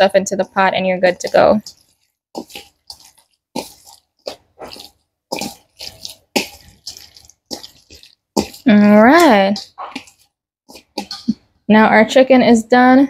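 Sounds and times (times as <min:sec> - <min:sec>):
wet squelches of mixing meat: 0:00.0 - 0:11.6.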